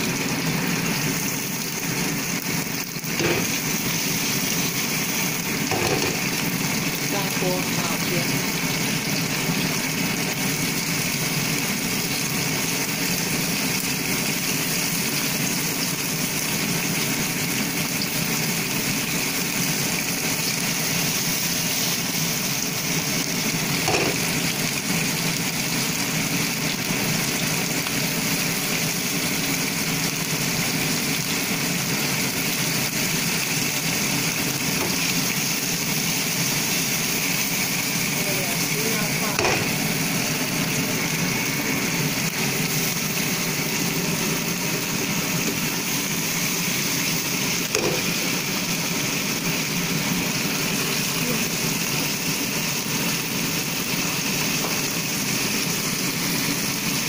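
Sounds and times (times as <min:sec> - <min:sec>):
fish sizzling in hot oil: 0:00.0 - 0:57.0
range hood fan running: 0:00.0 - 0:57.0.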